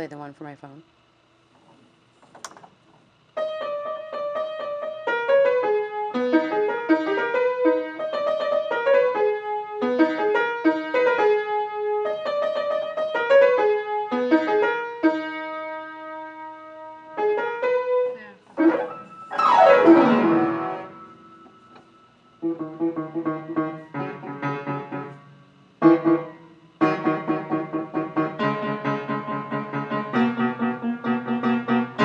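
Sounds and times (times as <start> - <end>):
keyboard piano tune: 3.3 - 32.0.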